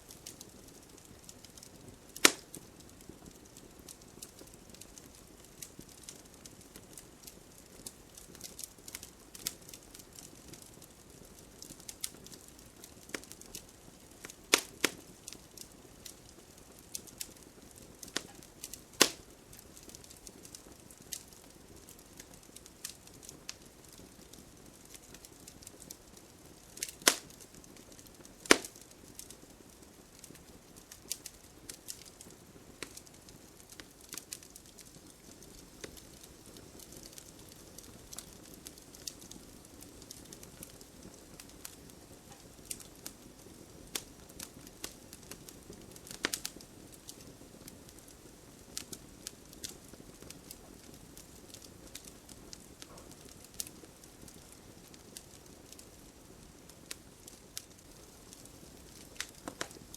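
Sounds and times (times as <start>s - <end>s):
campfire crackling and popping: 0.0s - 59.9s
low fire hiss: 0.0s - 59.9s.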